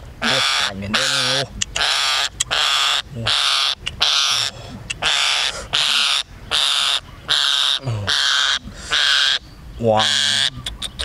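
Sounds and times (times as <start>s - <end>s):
parakeet screeching: 0.2s - 9.4s.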